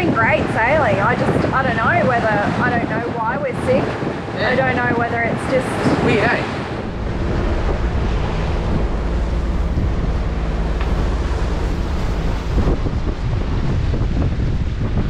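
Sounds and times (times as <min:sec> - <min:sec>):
rough sea washing past a hull: 0:00.0 - 0:15.0
wind buffeting the microphone: 0:00.0 - 0:15.0.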